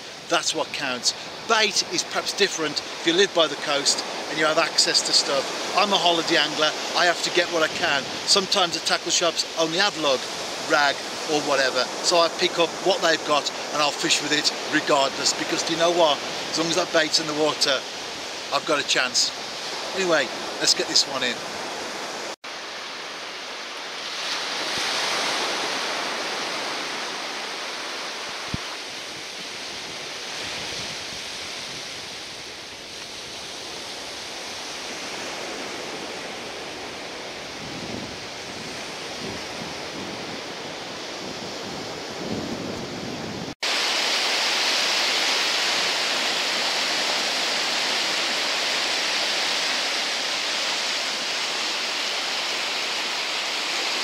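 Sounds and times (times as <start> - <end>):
surf washing onto beach: 0.0 - 54.0.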